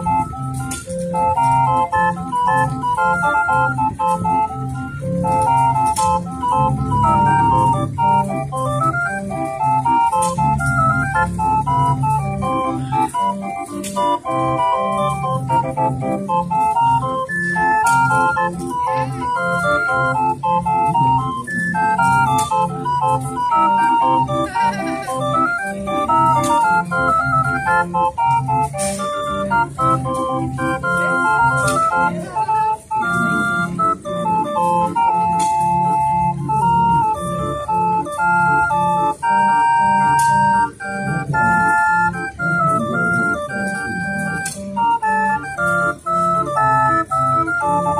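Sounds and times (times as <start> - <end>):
street organ playing: 0.0 - 47.9.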